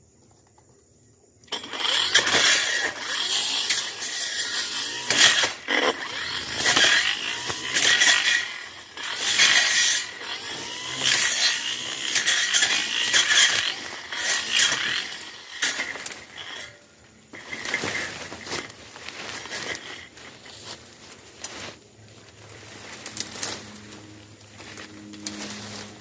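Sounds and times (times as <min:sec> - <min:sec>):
brush cutter engine cutting brush: 0:01.5 - 0:26.0.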